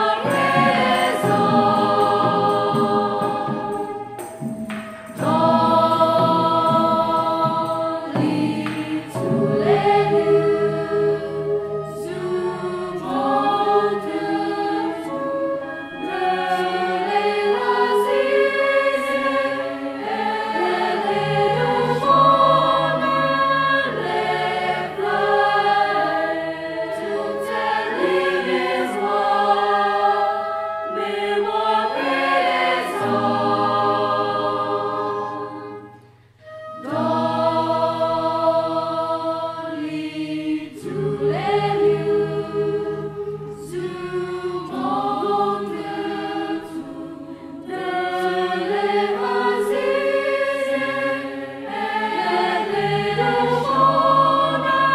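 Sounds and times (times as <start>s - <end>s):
mixed choir singing: 0.0s - 54.9s.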